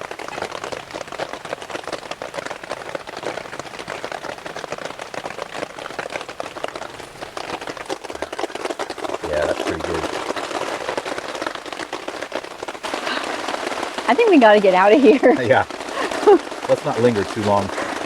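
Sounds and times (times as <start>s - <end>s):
rain on a tarp: 0.0s - 18.0s.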